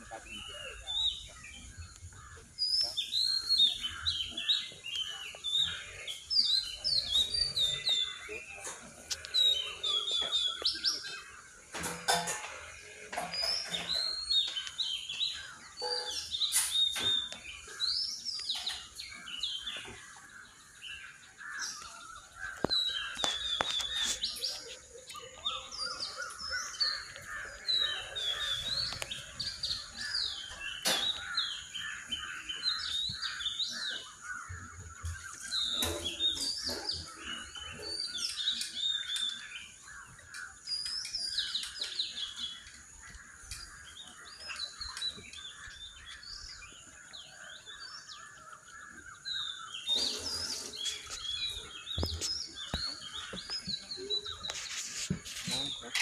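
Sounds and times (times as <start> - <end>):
birds singing and chirping: 0.0 - 56.0.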